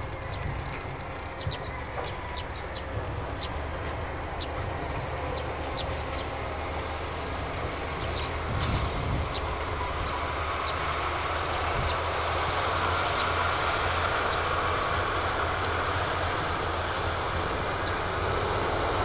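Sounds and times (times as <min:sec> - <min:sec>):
distant locomotive engine drone: 0:00.0 - 0:19.0.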